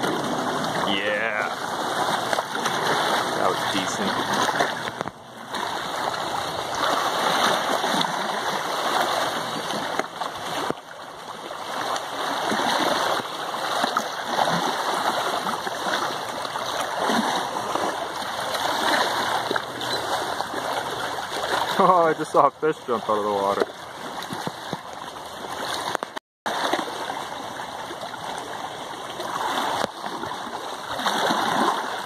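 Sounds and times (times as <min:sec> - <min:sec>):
small waves lapping on shore: 0:00.0 - 0:32.0.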